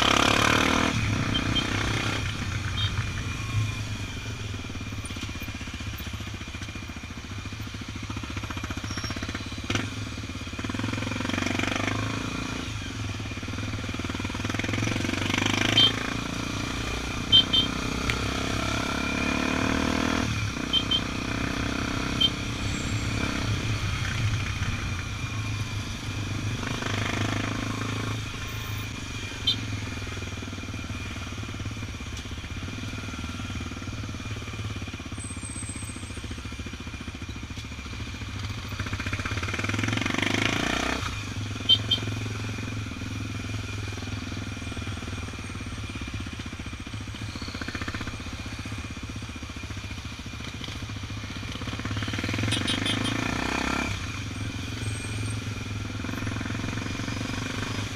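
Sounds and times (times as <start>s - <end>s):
motorcycle engine running: 0.0s - 57.9s
road and traffic noise: 0.0s - 57.9s.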